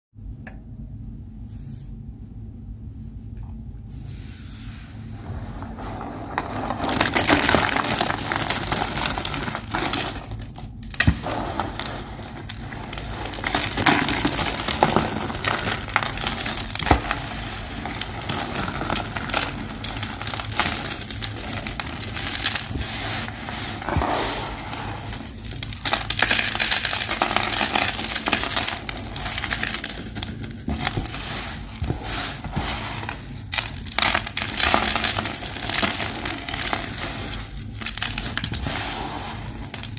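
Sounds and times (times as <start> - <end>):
soap crunching: 5.6 - 39.9.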